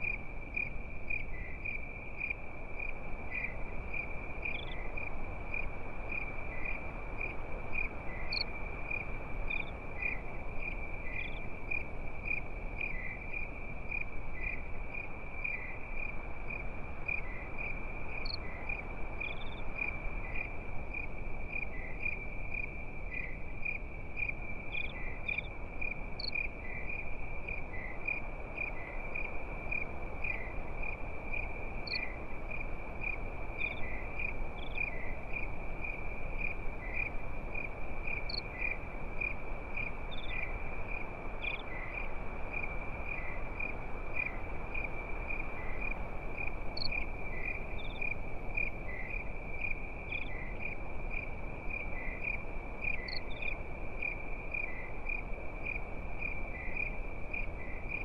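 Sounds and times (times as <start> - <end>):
crickets chirping: 0.0 - 58.0
insects chirping: 0.0 - 58.0
soft even hiss: 0.0 - 58.0.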